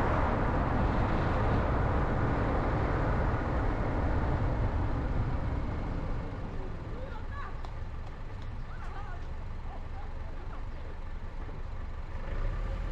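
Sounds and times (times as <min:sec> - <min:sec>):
car road noise: 0:00.0 - 0:12.9.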